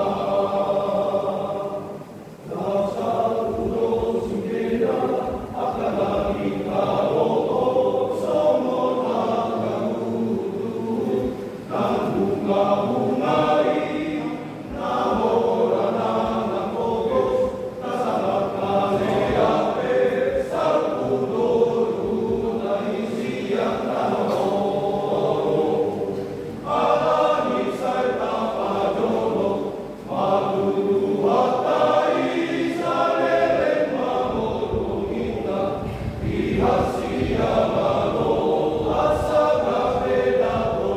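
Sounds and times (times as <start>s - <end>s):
men's choir singing: 0.0s - 40.9s.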